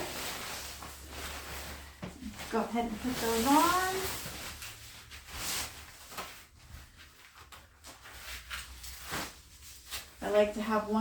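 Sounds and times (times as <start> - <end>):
rain pants rustling: 0.0 - 10.4.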